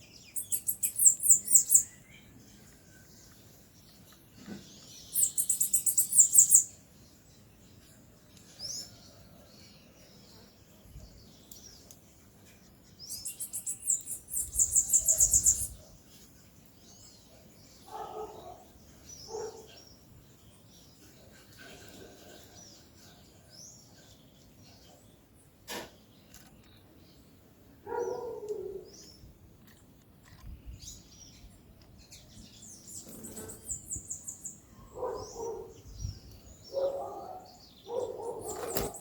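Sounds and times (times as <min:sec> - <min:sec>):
songbird high-pitched chirping: 0:00.0 - 0:39.0.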